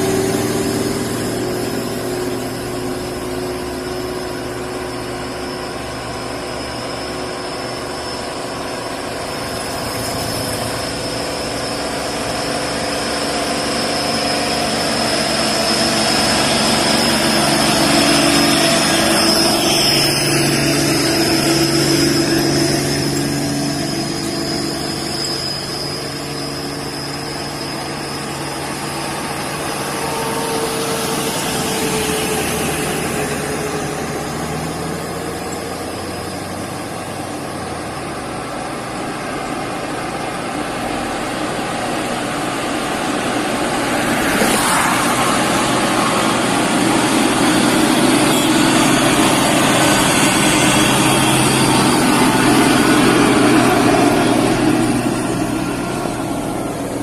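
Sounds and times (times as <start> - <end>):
bus engine climbing: 0.0 - 57.0
high-pitched whine: 0.0 - 57.0.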